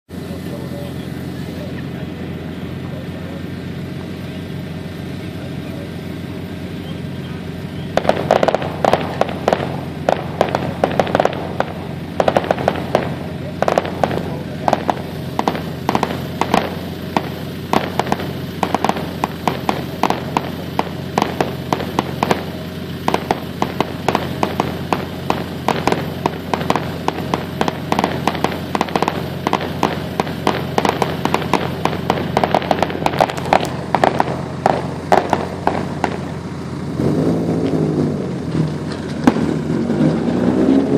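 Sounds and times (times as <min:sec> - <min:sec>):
fireworks bangs and crackles: 0:00.1 - 0:40.9
steady low hum: 0:00.1 - 0:40.9.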